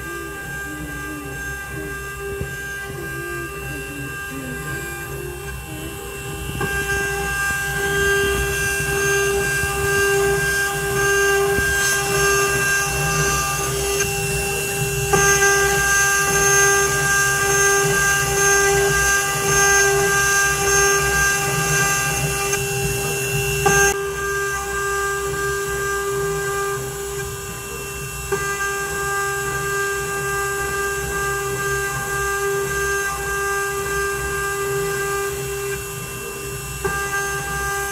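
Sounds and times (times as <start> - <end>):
milling machine whine: 0.0 - 37.9.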